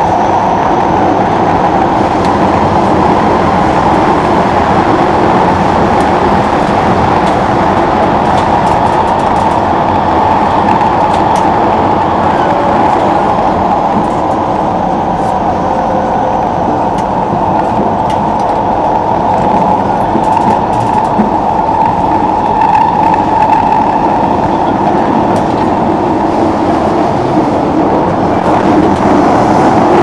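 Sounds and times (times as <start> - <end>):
train rumbling through tunnel: 0.0 - 30.0.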